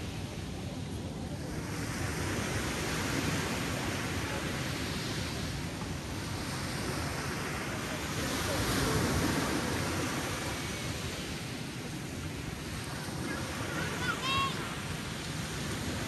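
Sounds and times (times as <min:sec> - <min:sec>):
ocean waves breaking on a beach: 0:00.0 - 0:16.0.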